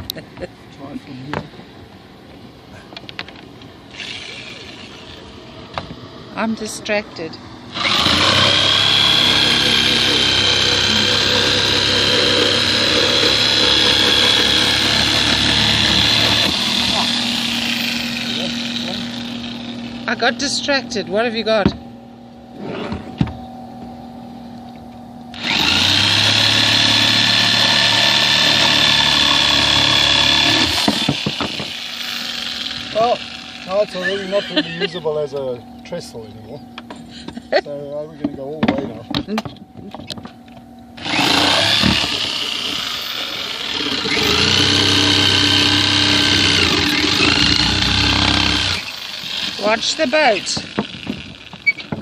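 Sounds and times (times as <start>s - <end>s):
power tool whining: 3.9s - 37.5s, 38.9s - 52.0s.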